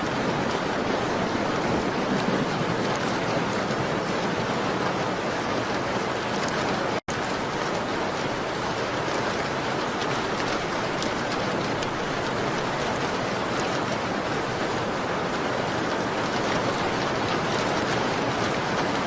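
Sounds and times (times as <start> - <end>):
rain on a window: 0.0 - 19.0.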